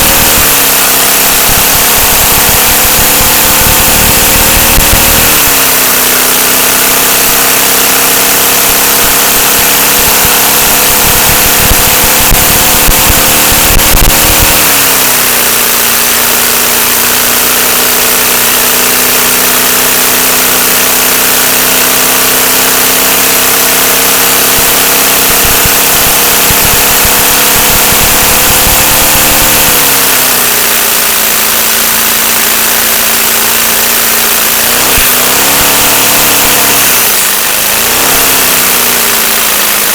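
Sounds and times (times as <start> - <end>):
toy engine running with air hiss: 0.0 - 39.9.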